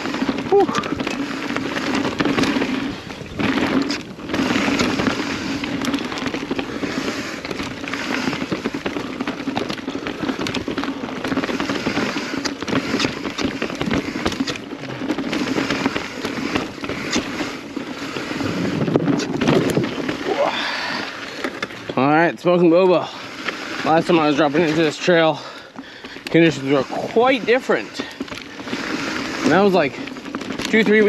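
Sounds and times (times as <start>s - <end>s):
bike tyres crunching over dirt: 0.0s - 31.0s
chain and frame rattling: 0.0s - 31.0s.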